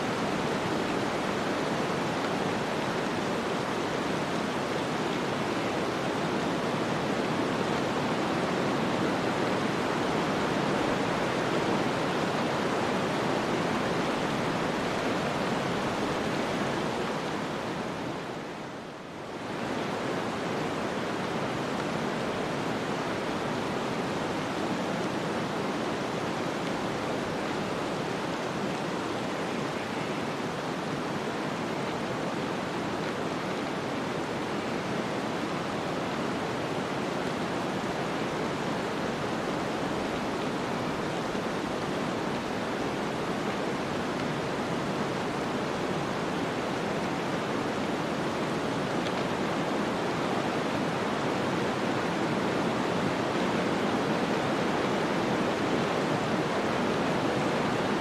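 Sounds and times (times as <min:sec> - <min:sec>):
rushing snowstorm wind: 0:00.0 - 0:58.0.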